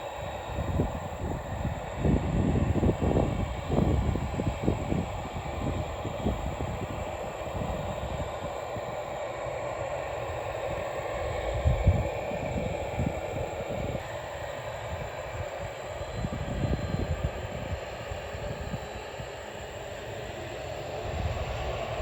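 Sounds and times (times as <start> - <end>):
wind buffeting microphone: 0.0 - 14.1, 14.8 - 22.0
jet engines rumbling: 0.0 - 22.0.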